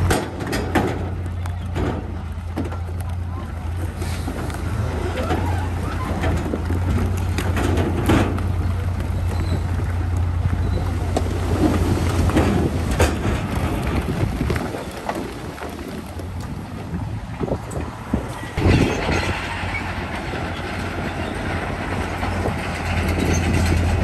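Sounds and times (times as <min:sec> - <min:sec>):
diesel engine droning: 0:00.0 - 0:24.0
rock clanking and scraping: 0:00.0 - 0:24.0.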